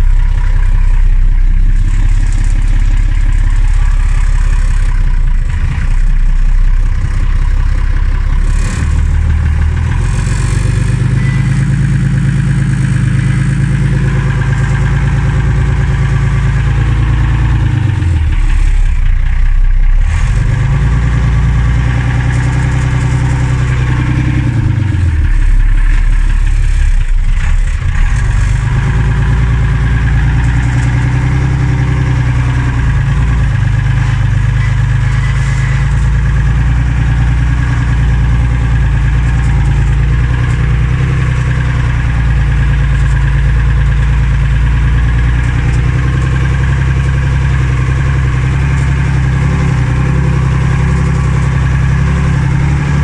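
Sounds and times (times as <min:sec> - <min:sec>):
diesel engine heard from cab: 0:00.0 - 0:53.0.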